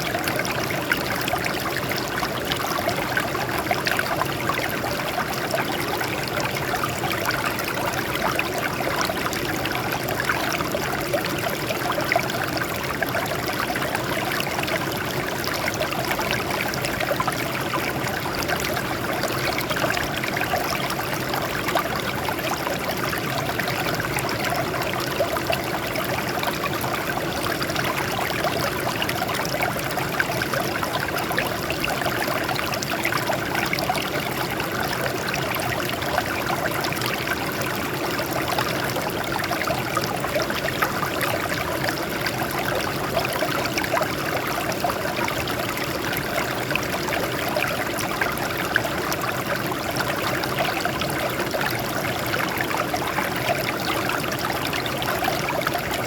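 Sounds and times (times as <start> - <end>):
stream water trickling over rocks: 0.0 - 56.0.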